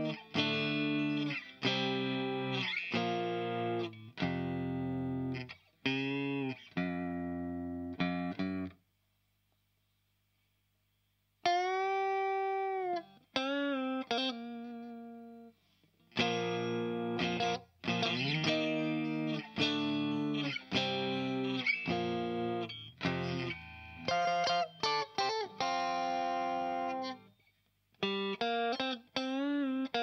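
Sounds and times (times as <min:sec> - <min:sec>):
electric guitar chords: 0:00.0 - 0:08.8, 0:11.4 - 0:15.5, 0:16.1 - 0:27.2, 0:28.0 - 0:30.0.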